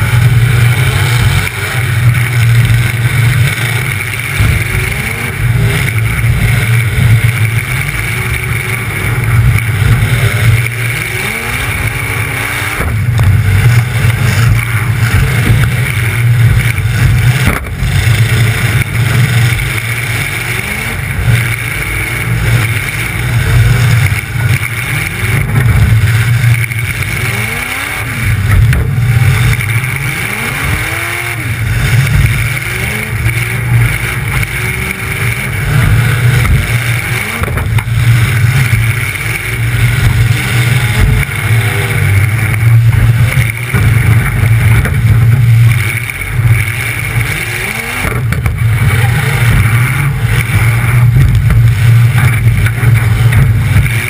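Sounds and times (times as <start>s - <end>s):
car engine revving: 0.0s - 54.0s
cars knocking together: 0.0s - 54.0s.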